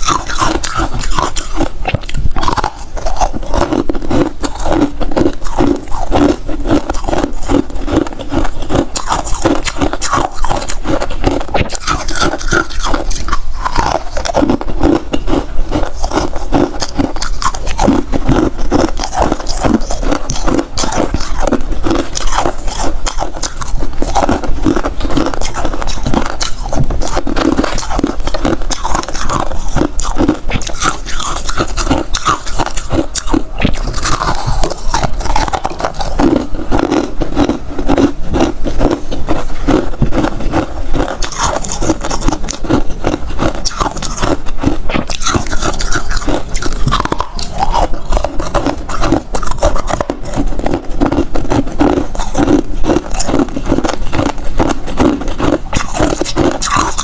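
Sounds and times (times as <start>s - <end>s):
person crunching ice: 0.0s - 57.0s.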